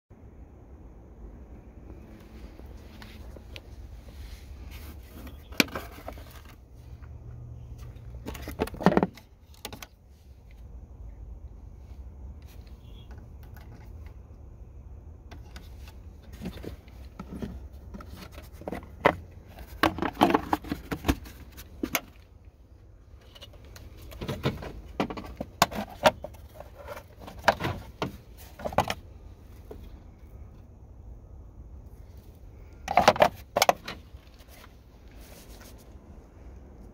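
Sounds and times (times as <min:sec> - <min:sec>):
low steady rumble: 0:00.1 - 0:36.9.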